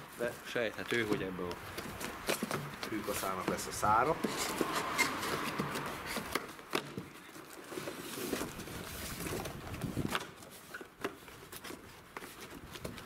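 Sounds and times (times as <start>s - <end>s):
cardboard box handling noise: 0.0s - 13.0s.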